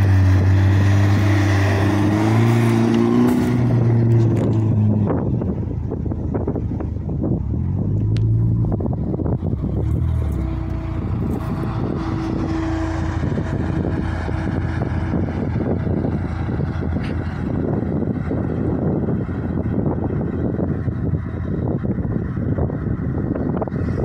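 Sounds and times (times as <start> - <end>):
suv engine running: 0.0 - 24.0.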